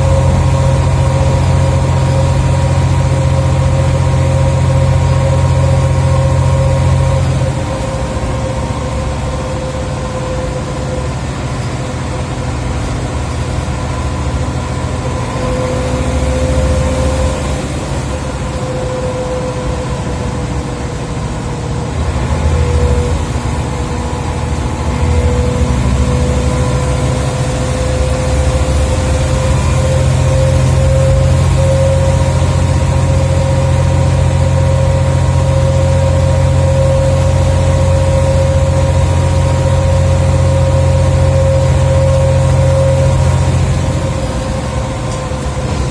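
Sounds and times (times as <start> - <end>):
bus engine: 0.0 - 45.9
gearbox whine: 0.0 - 45.9.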